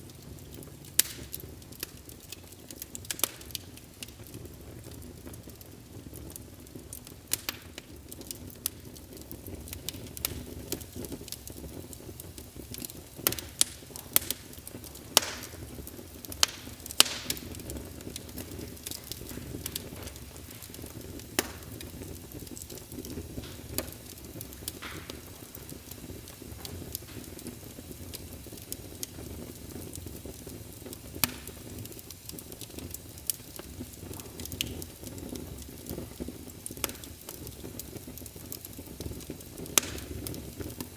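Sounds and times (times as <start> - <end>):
fire pops and crackles: 0.0 - 40.9
low rumble of flames: 0.0 - 40.9.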